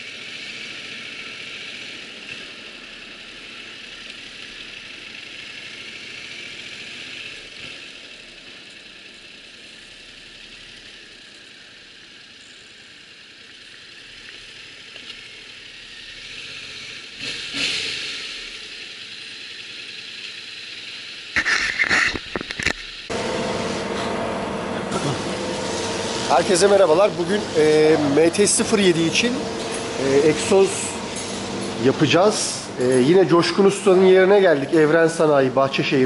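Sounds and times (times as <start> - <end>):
motorcycle engine hissing quietly: 0.0 - 36.0.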